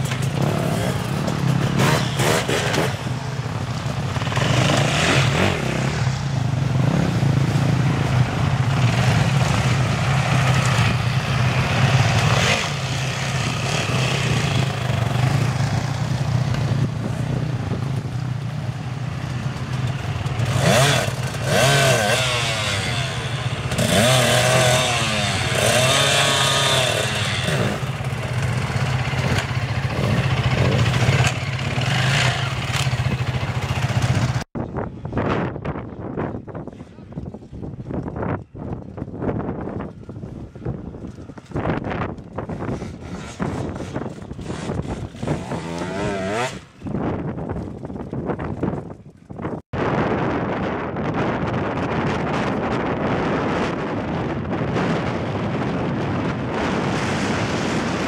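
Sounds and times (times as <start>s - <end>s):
dirt bike engines revving: 0.0s - 49.6s, 51.8s - 58.0s.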